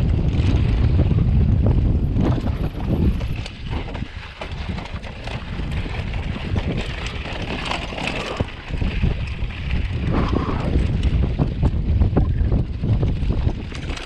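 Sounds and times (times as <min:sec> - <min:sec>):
bike rattling over bumps: 0:00.0 - 0:14.0
tyres rolling over dirt and stones: 0:00.0 - 0:14.0
wind rumble on microphone: 0:00.0 - 0:14.0.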